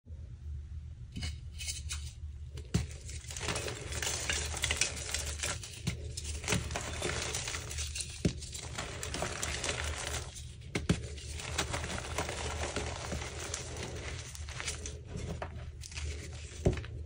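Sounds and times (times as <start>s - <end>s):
chalk crunching by hand: 3.1s - 17.0s.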